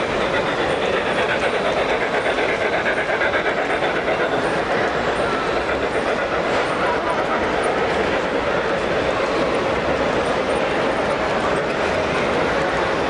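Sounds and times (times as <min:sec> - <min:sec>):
model train rolling rumble: 0:00.0 - 0:13.0.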